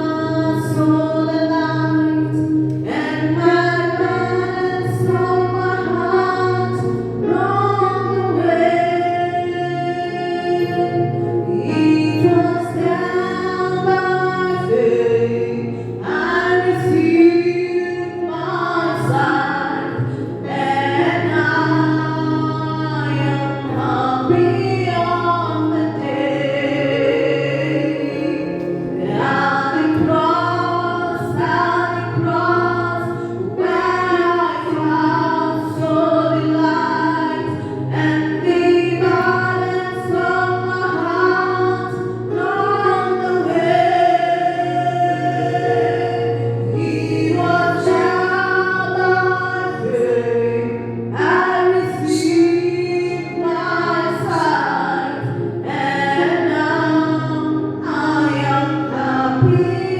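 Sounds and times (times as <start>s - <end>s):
group singing a slow hymn: 0.0s - 59.9s
sustained instrumental backing: 0.0s - 59.9s.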